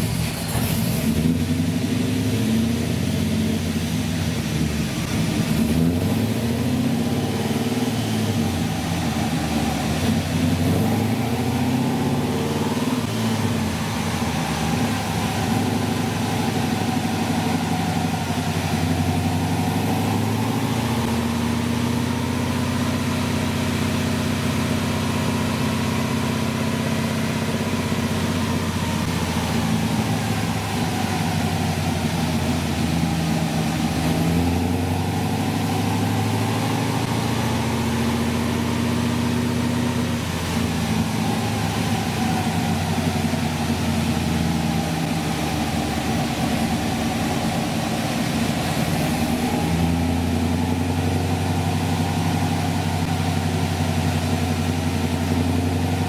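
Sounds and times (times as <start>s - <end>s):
car engine running on dyno: 0.0s - 56.0s.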